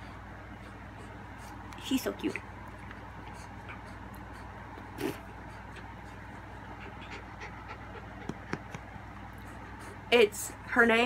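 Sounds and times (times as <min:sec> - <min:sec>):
puppy panting: 0:00.0 - 0:10.4
low steady hum: 0:00.0 - 0:11.0.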